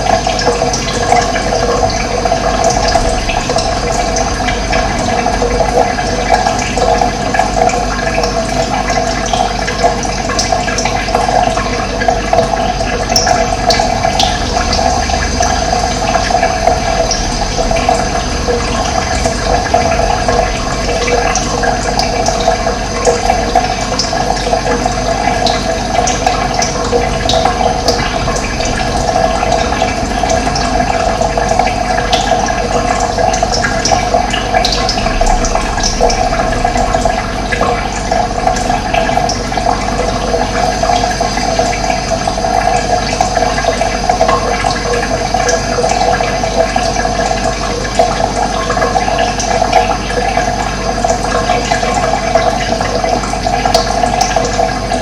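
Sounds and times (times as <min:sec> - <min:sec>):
water flowing and gurgling: 0:00.0 - 0:55.0.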